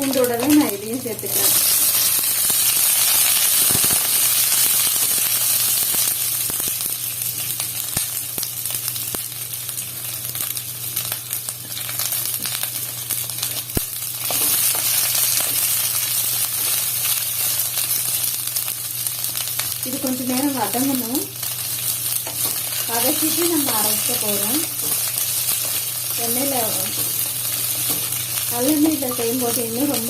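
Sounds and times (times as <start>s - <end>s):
garlic and chilli sizzling in oil: 0.0s - 30.0s.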